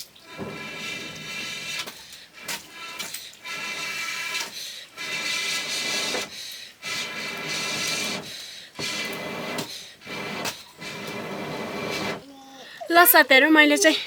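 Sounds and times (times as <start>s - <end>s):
person blowing on a fire: 0.0s - 12.3s.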